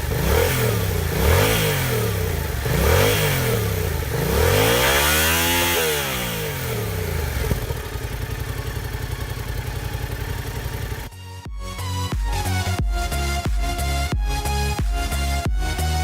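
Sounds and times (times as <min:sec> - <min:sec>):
motorcycle engine revving and idling: 0:00.0 - 0:15.8.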